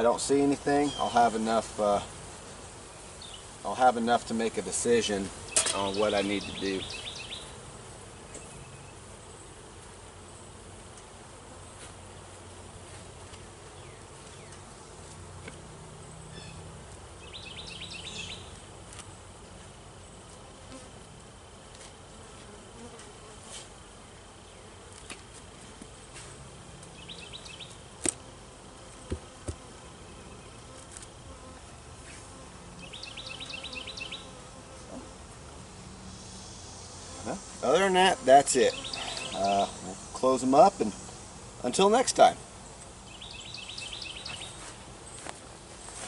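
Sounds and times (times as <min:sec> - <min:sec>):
bees buzzing: 0:00.0 - 0:46.0.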